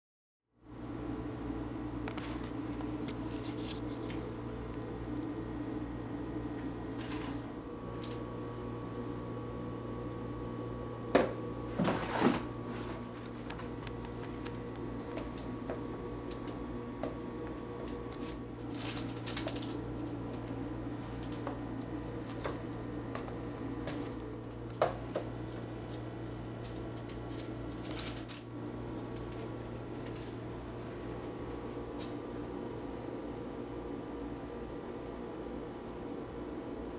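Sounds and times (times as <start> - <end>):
steady low hum: 0.5 - 36.9.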